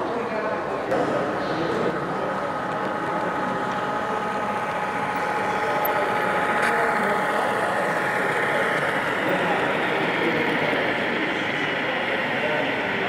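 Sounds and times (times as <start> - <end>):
model locomotive running with whine: 0.0 - 13.0.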